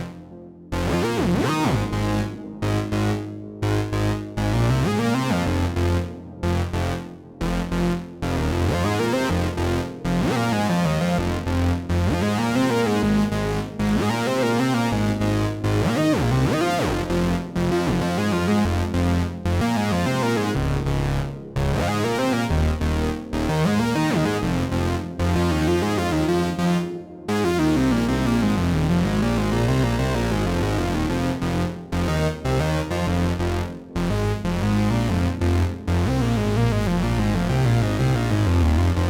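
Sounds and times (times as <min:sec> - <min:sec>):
synthesizer with pitch glides: 0:00.0 - 0:39.0.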